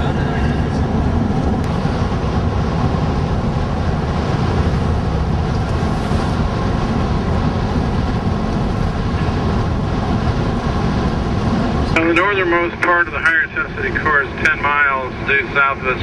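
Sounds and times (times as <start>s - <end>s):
road and engine rumble in a van: 0.0s - 16.0s.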